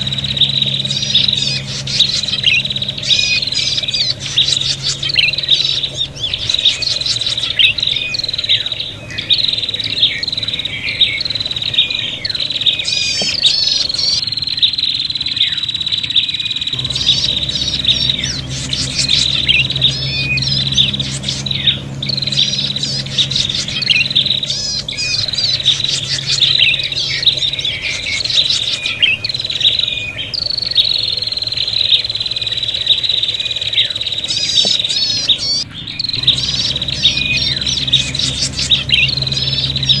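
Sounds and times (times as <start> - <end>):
birds chirping in chorus: 0.0 - 40.0
steady high whine: 0.0 - 40.0.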